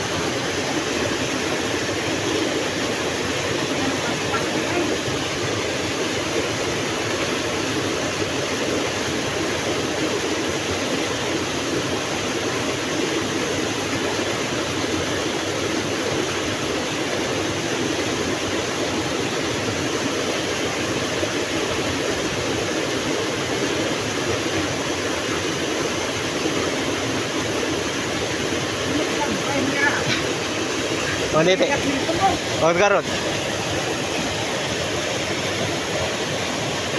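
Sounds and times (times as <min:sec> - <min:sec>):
river water flowing over rocks: 0:00.0 - 0:36.9.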